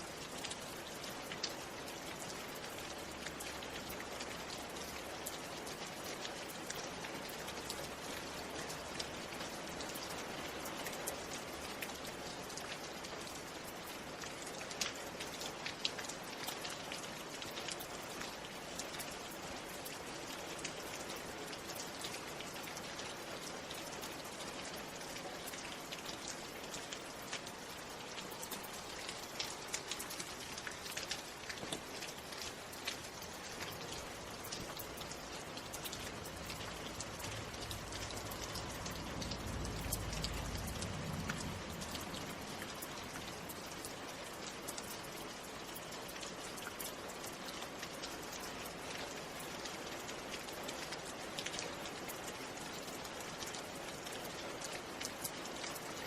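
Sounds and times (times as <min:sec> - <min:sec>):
louder raindrops: 0:00.0 - 0:56.0
steady rain falling: 0:00.0 - 0:56.0.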